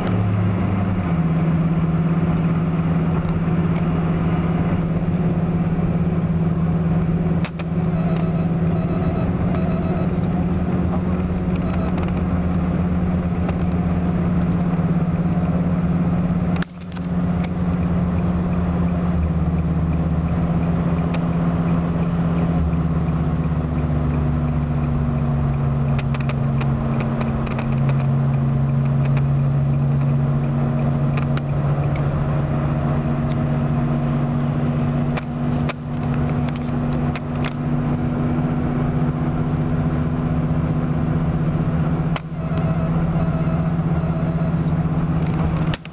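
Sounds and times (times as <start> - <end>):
car engine humming: 0.0 - 45.9
road noise: 0.0 - 45.9.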